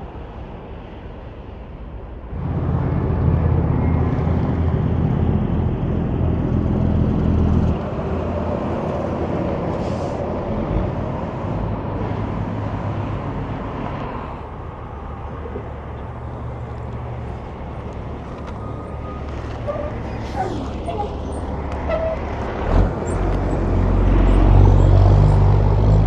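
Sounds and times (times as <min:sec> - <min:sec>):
tyre and road noise: 0:00.0 - 0:26.0
truck diesel engine: 0:02.3 - 0:26.0.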